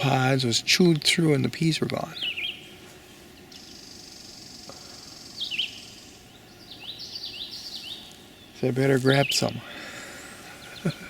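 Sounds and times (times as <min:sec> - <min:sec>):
small birds chirping: 0:00.0 - 0:11.0
steady high-pitched buzz: 0:00.0 - 0:11.0.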